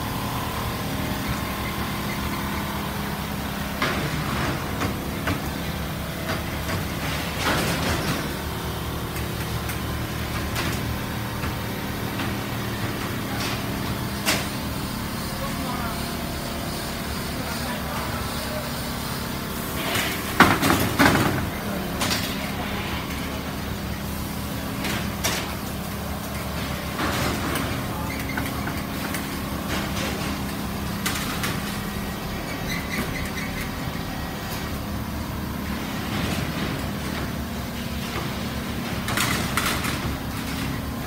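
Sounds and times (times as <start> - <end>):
quilting machines humming: 0.0 - 41.0.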